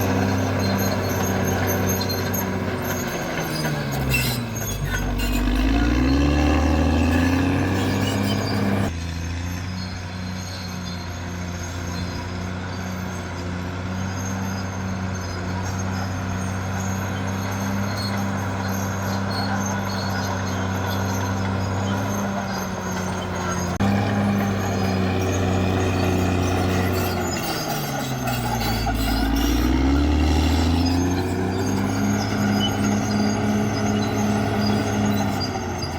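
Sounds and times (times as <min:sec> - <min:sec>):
bulldozer diesel engine running: 0:00.0 - 0:35.9.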